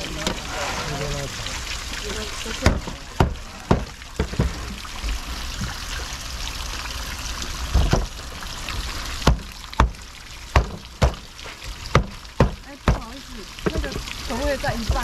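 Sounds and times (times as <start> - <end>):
running water trickling: 0.0 - 15.0.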